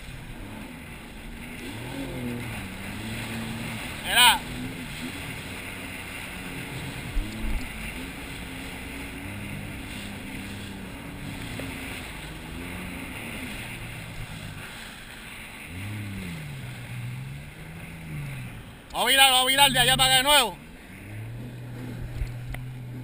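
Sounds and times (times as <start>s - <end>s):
water and wind rushing: 0.0s - 23.0s
watercraft engine running: 0.0s - 23.0s.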